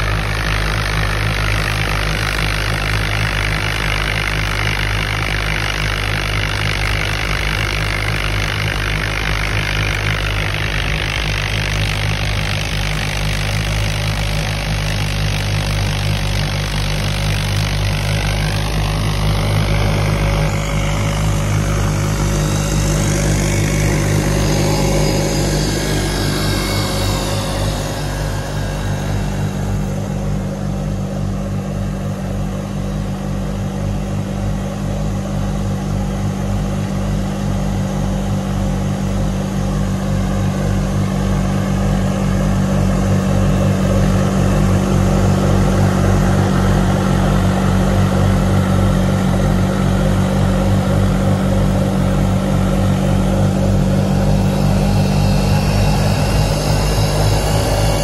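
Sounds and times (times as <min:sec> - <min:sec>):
tractor engine running under load: 0:00.0 - 0:58.0.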